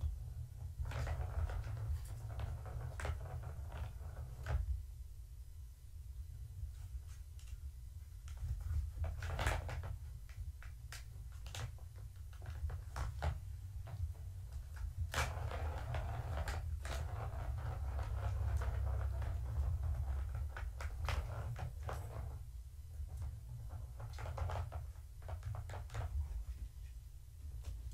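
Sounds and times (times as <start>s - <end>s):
plastic ball rattling around track: 0.1s - 4.8s, 8.3s - 26.4s.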